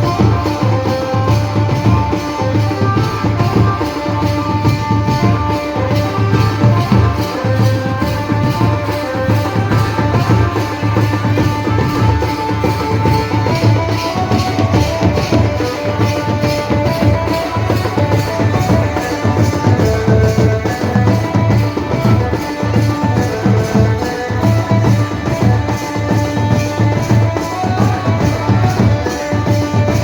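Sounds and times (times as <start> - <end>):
driving drum beat: 0.0 - 30.0.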